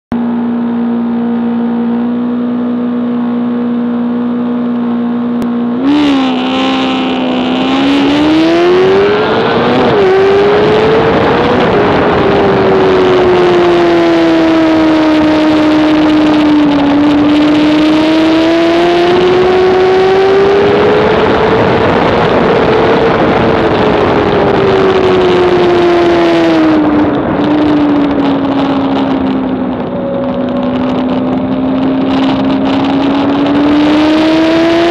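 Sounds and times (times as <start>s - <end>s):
motorcycle engine revving: 0.1s - 34.9s
wind rushing over microphone: 0.1s - 34.9s.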